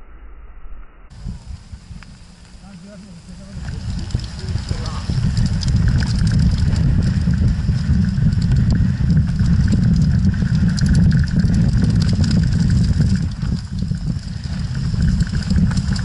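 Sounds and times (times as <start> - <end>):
bike tyres clicking and rattling: 1.1 - 16.0
wind rumble on microphone: 1.1 - 16.0.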